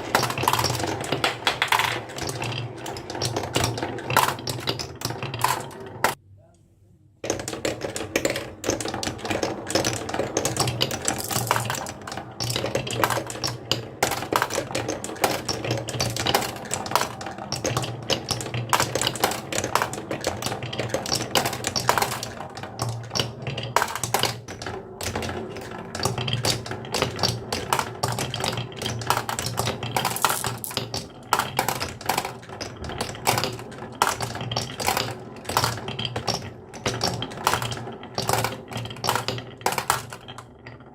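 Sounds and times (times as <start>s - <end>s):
marbles clattering down wooden run: 0.0s - 6.2s, 7.2s - 40.9s.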